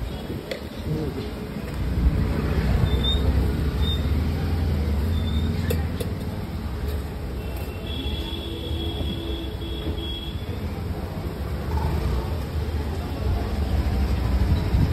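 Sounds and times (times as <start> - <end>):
low rumble of engines: 0.0 - 14.9.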